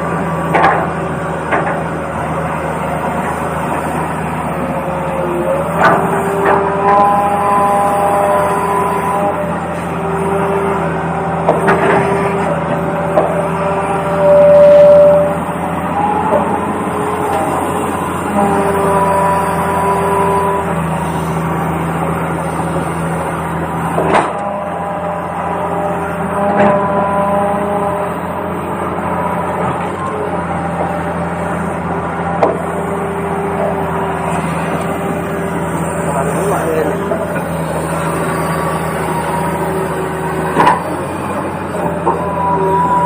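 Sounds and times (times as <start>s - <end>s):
small electric motors whining: 2.2s - 43.0s.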